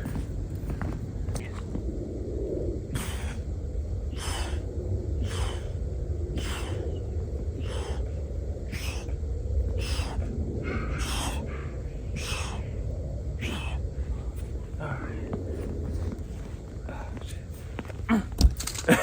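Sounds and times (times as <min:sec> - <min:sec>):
wind rumble on microphone: 0:00.0 - 0:19.0
man breathing hard: 0:02.8 - 0:18.4.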